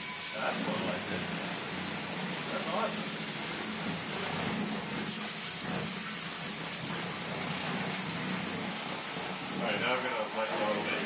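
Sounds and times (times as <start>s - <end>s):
water spraying into plastic tub: 0.0s - 11.0s.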